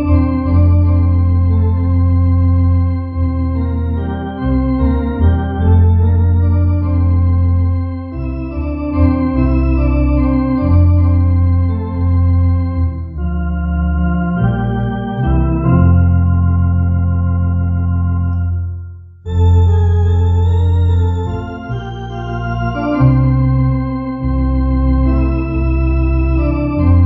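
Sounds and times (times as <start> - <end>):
electronic organ playing a hymn: 0.0 - 27.0.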